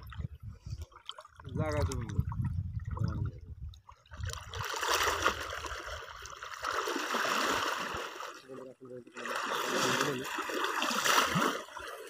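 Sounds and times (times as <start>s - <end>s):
water splashing around waders: 0.0s - 12.0s.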